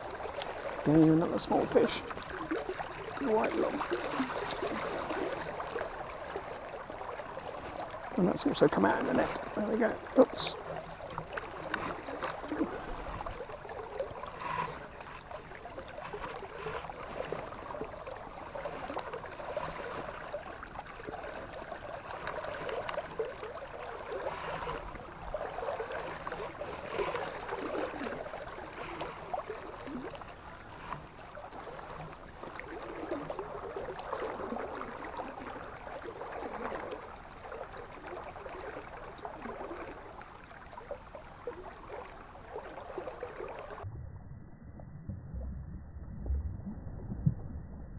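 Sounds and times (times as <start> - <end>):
river water rushing: 0.0 - 40.2.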